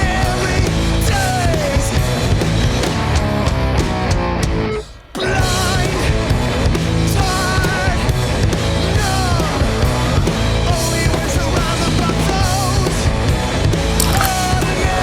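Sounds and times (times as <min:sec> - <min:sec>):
instrumental punk rock: 0:00.0 - 0:15.0.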